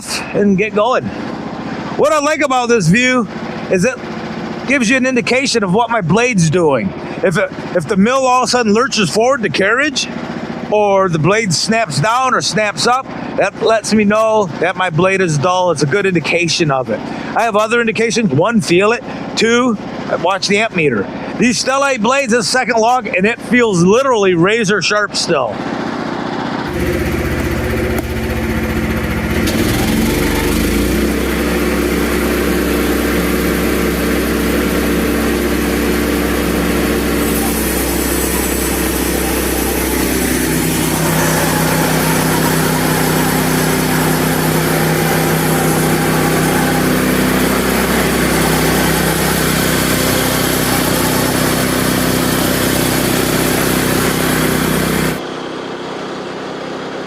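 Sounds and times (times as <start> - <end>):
sawmill engine running under load: 0.0 - 57.0.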